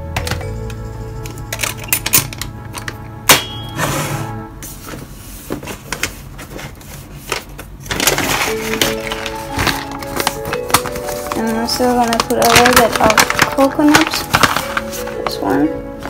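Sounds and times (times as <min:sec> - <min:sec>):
soft background music: 0:00.0 - 0:05.5, 0:07.9 - 0:16.0.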